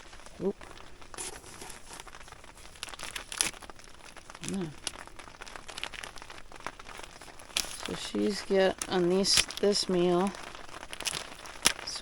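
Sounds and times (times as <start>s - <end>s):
material crinkling and rustling: 0.0s - 12.0s
sharp clicks and crackles: 0.0s - 12.0s.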